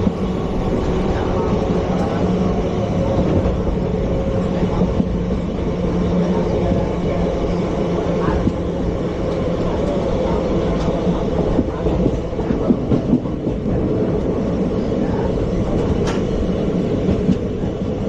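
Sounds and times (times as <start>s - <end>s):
train coach rumbling on track: 0.0s - 18.0s.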